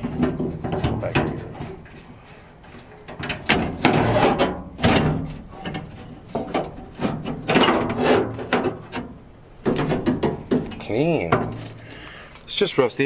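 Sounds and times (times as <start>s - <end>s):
metal clanking and scraping: 0.0s - 12.1s.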